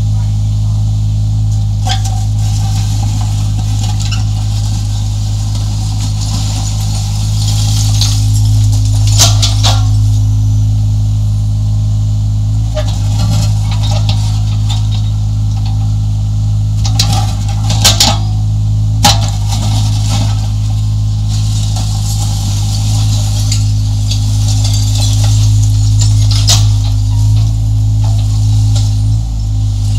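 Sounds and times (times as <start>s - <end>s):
excavator diesel engine running: 0.0s - 29.9s
concrete clattering in bucket: 1.8s - 10.2s, 12.7s - 16.0s, 16.8s - 29.9s.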